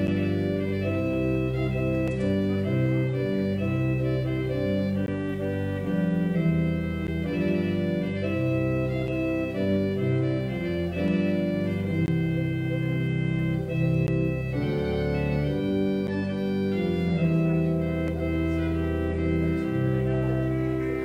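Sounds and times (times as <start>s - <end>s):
church organ playing chords: 0.0s - 21.0s.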